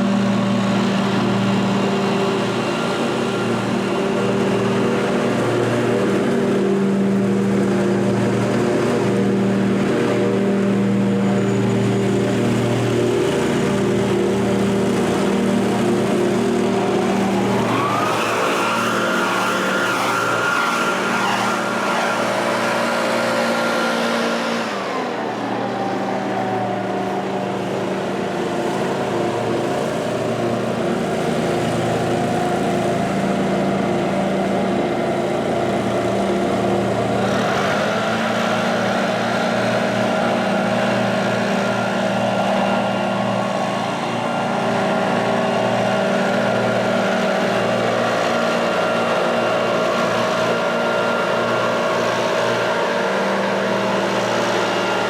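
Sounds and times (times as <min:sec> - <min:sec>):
engine revving to a high whine: 0:00.0 - 0:55.0
lawn equipment engines running: 0:00.0 - 0:55.0.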